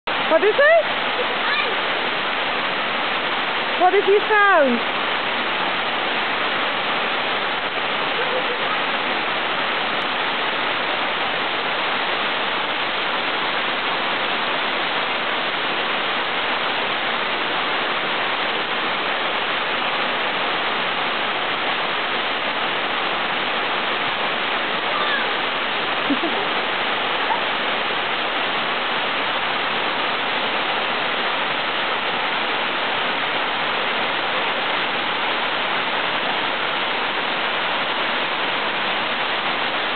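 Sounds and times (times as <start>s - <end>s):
waterfall roaring: 0.1s - 39.9s.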